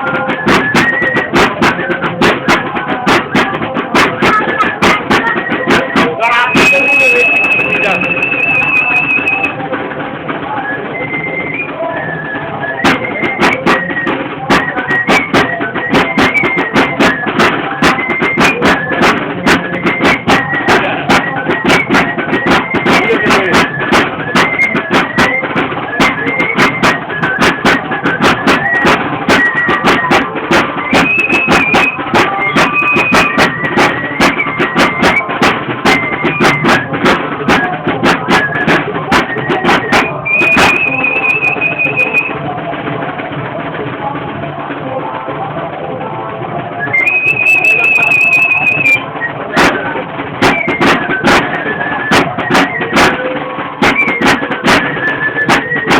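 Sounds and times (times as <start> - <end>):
high flute melody: 0.0 - 9.8, 10.4 - 42.6, 46.1 - 55.9
steady drum beat: 0.0 - 55.9.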